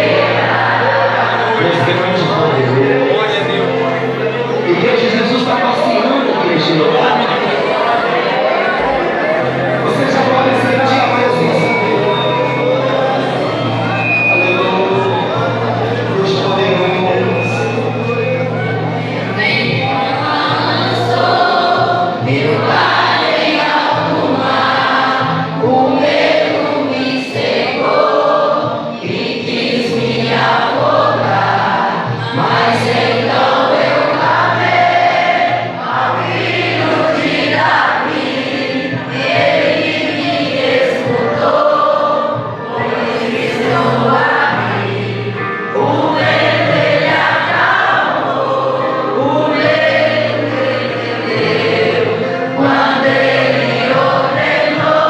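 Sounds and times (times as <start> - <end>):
group singing a hymn: 0.0 - 55.0
instrumental accompaniment: 0.0 - 55.0.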